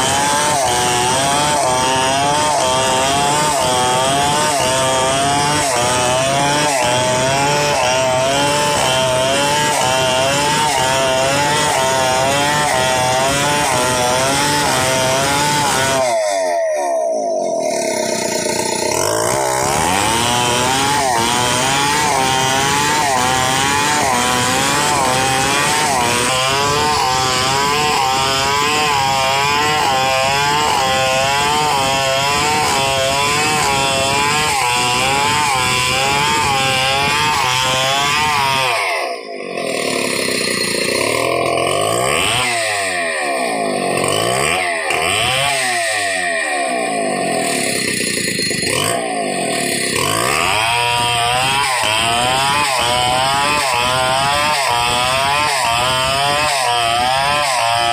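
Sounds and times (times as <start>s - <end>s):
chainsaw cutting log: 0.0s - 57.9s.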